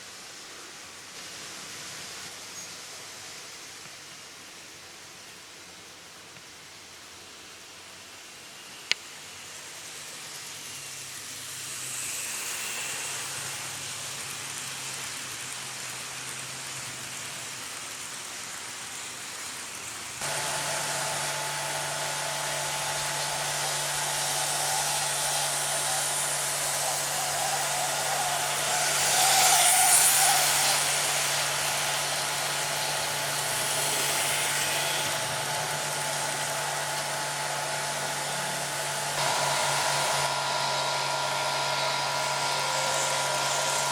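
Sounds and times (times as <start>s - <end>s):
wheel and rail noise: 7.9s - 43.9s
model train motor hum: 8.2s - 43.9s.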